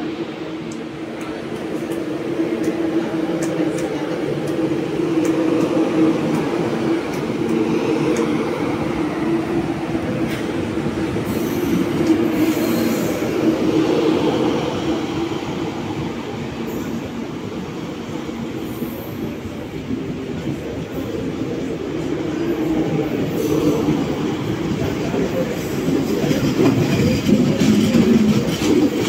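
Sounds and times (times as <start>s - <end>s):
electric train humming past: 0.0s - 29.0s.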